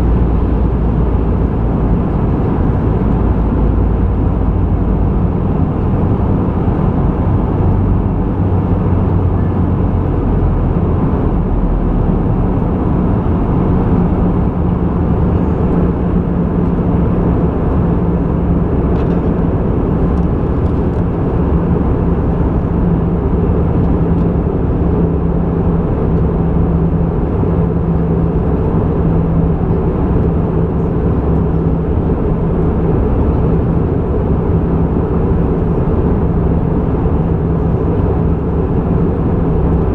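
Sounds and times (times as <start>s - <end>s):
aircraft engines and airflow rumble: 0.0s - 39.9s.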